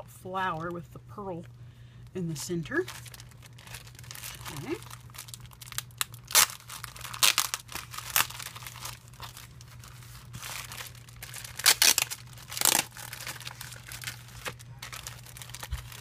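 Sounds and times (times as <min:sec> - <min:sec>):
plastic bag crinkling: 0:02.4 - 0:16.0.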